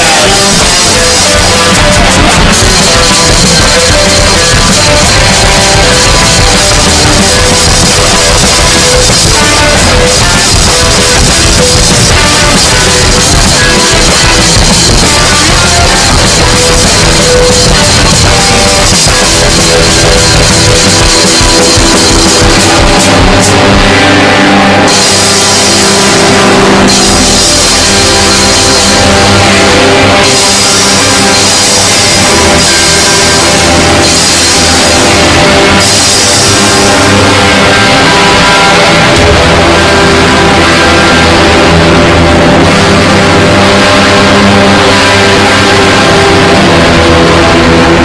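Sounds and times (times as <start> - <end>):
black metal music: 0.0 - 48.0.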